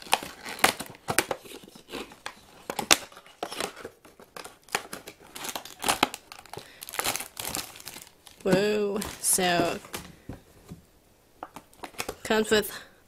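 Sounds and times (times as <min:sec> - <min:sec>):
plastic and cardboard packaging crinkling: 0:00.0 - 0:10.8, 0:11.4 - 0:12.3.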